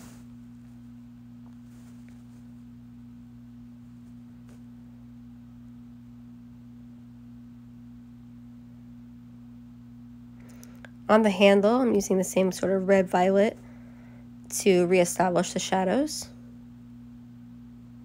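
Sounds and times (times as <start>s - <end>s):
low two-tone hum: 0.0s - 18.0s.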